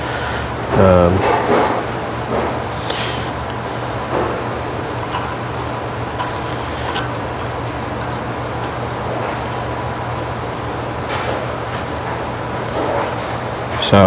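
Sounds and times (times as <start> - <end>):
low hum of shop noise: 0.0 - 14.0
pick scraping dirt off engine: 0.0 - 14.0.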